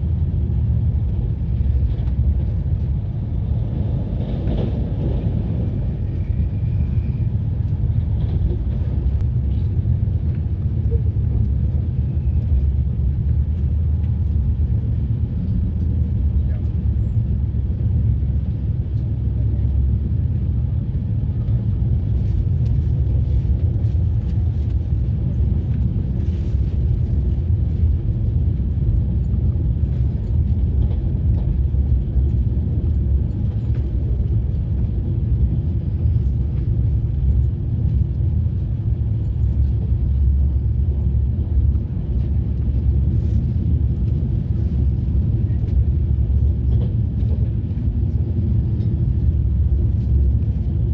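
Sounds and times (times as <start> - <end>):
moving train rumble: 0.0 - 50.9.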